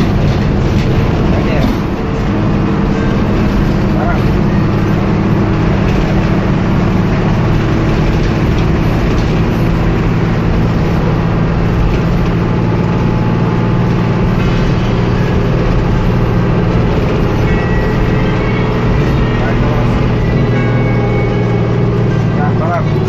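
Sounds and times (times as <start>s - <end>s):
bus engine running: 0.0s - 23.0s
tyre and road noise: 0.0s - 23.0s.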